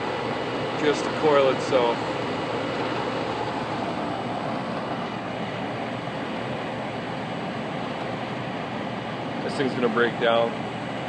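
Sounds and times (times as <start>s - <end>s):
air conditioning unit hum: 0.0s - 11.0s.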